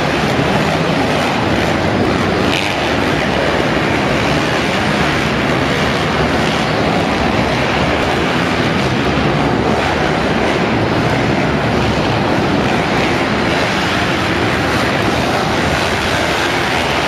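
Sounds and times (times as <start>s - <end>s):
dirt bike engines running: 0.0s - 17.0s.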